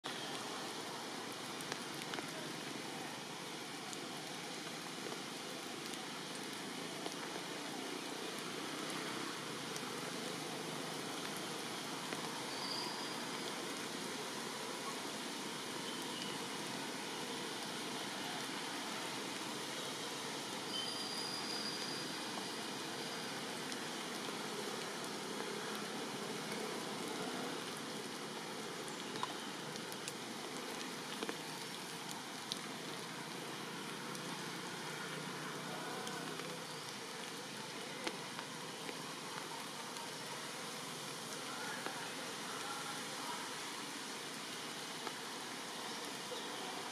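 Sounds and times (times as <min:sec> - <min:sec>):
steady rainfall: 0:00.0 - 0:46.9.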